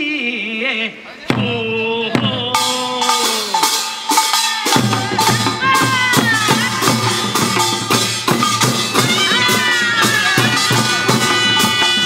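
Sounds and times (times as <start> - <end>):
drums beating steady rhythm: 1.2 - 12.0.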